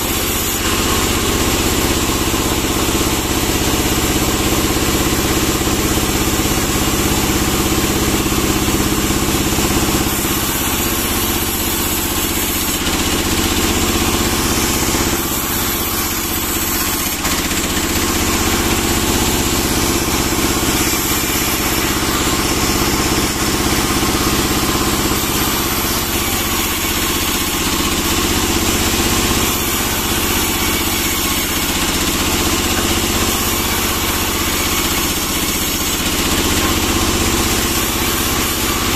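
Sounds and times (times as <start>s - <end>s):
band sawmill sawing log: 0.0s - 38.9s.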